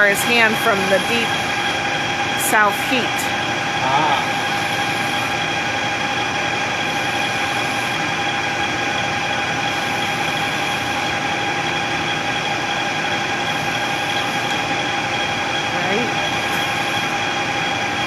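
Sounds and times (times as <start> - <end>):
lathe running with high whine: 0.0 - 18.0.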